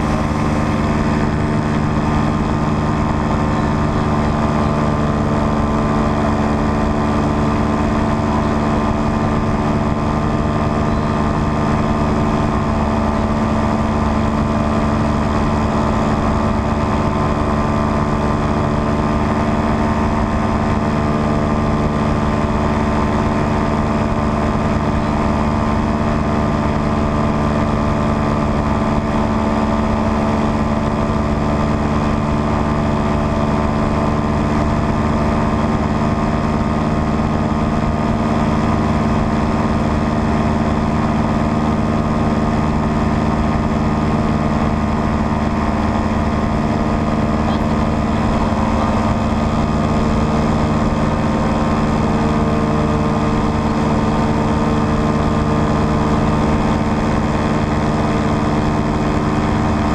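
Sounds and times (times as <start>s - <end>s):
paramotor engine droning: 0.0s - 59.9s.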